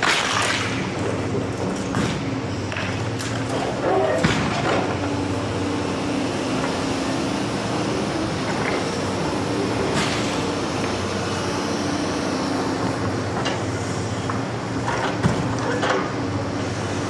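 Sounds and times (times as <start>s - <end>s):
excavator engine and hydraulics running: 0.0s - 17.0s.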